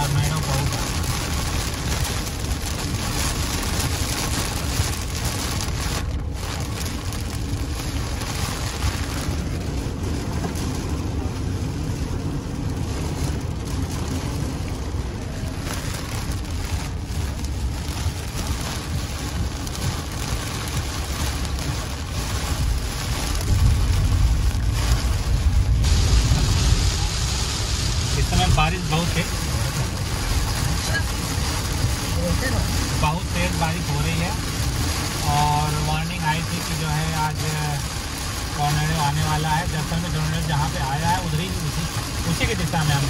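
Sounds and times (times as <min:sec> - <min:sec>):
heavy rain on car roof: 0:00.0 - 0:43.0
tyres rumbling on wet road: 0:00.0 - 0:43.0.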